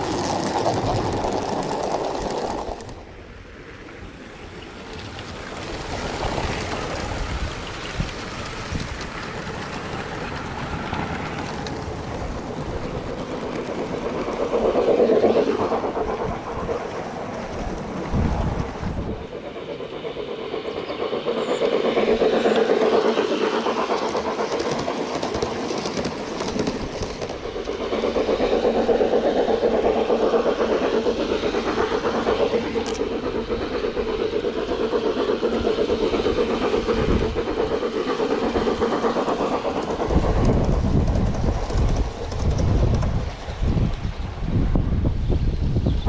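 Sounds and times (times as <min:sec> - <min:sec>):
model train running on track: 0:00.0 - 0:46.0.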